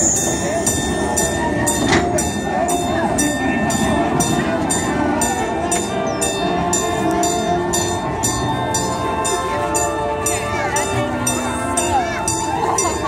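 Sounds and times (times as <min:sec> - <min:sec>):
regular track clicking: 0:00.0 - 0:13.0
train cars rumbling on track: 0:00.0 - 0:13.0.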